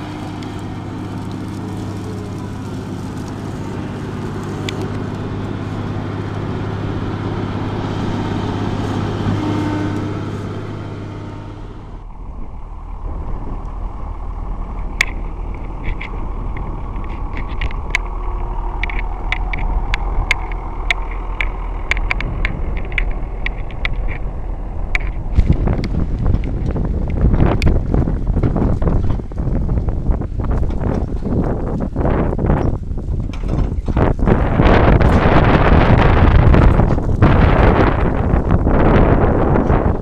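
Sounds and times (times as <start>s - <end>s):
sharp clicks and crackles: 0.0s - 6.5s, 12.0s - 40.0s
diesel engine running: 0.0s - 40.0s
low engine rumble: 0.0s - 40.0s.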